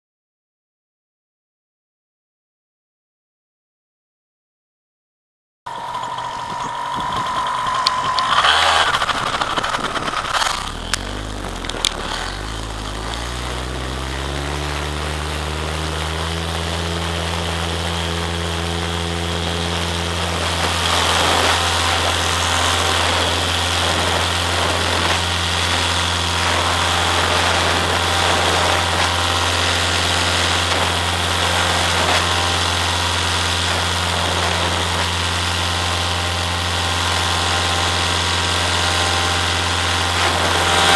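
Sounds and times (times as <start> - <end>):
paramotor engine running: 5.7 - 40.9.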